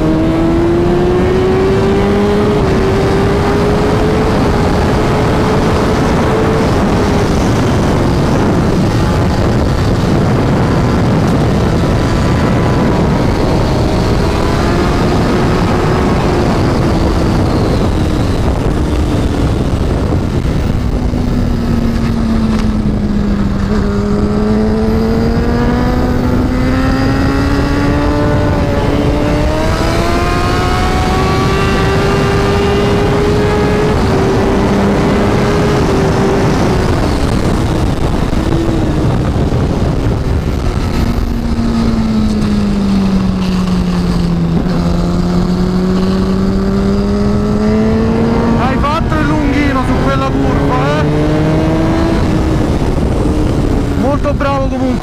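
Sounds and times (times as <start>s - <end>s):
heavy wind rush: 0.0s - 55.0s
motorcycle engine: 0.0s - 55.0s.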